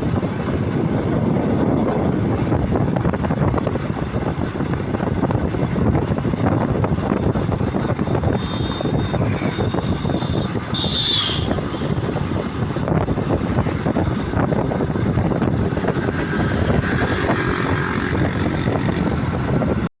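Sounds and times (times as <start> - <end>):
moving vehicle rumble: 0.0 - 19.9
road noise: 0.0 - 19.9
wind noise: 0.0 - 19.9.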